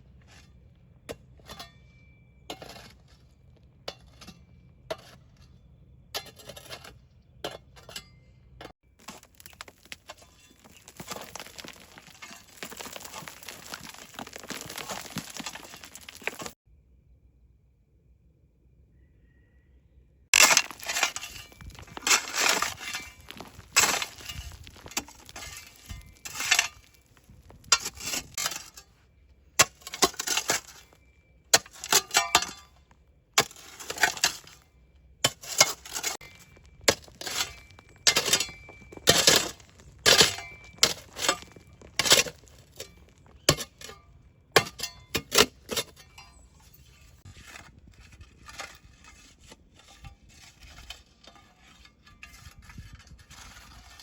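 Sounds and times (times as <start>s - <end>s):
crunching and clinking food preparation: 0.0s - 16.6s, 20.3s - 54.0s.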